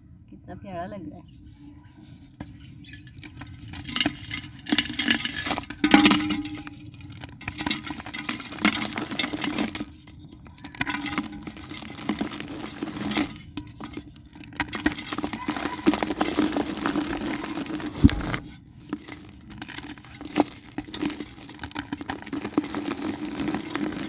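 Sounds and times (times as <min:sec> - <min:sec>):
dry dirt crumbling and crunching: 0:01.4 - 0:24.0
fragments clinking into clay pot: 0:02.8 - 0:24.0.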